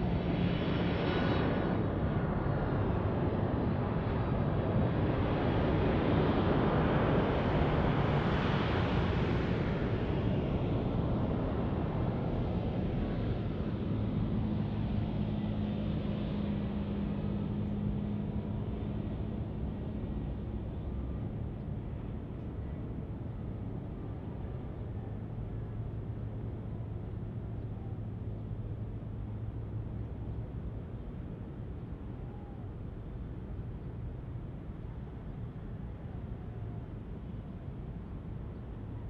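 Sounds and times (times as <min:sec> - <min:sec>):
jet engine rumble: 0:00.0 - 0:39.0.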